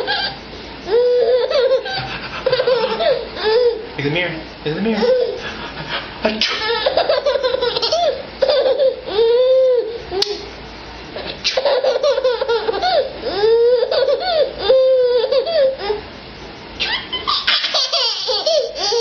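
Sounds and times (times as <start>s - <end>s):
baby laughing hysterically: 0.0s - 3.9s, 5.0s - 9.8s, 11.6s - 16.0s, 16.8s - 19.0s.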